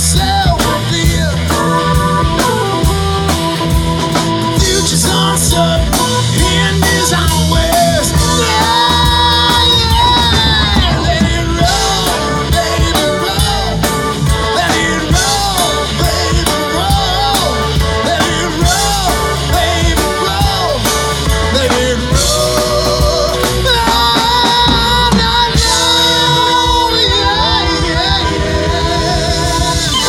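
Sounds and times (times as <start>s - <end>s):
lead guitar bending notes: 0.0s - 30.0s
live rock band playing: 0.0s - 30.0s.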